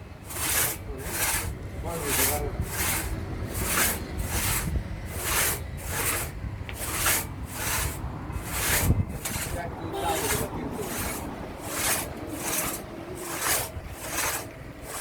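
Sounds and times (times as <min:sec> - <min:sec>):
hand tool rasping: 0:00.2 - 0:15.0.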